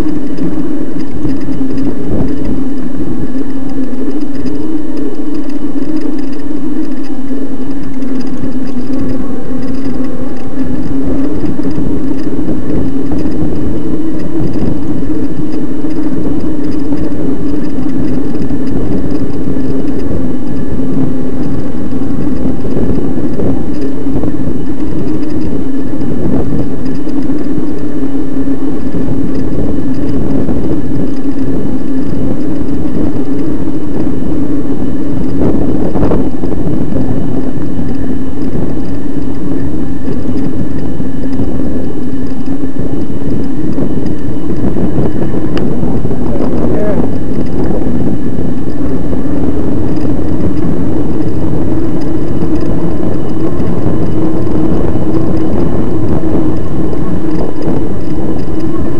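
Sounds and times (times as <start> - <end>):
electric bike motor whine: 0.0 - 58.9
rough rumble of dirt trail: 0.0 - 58.9.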